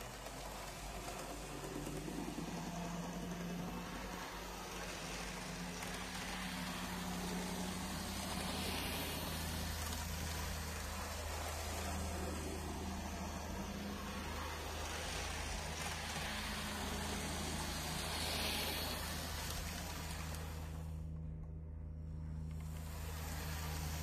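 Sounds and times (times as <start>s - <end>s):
model train motor humming: 0.0s - 21.4s, 22.0s - 24.0s.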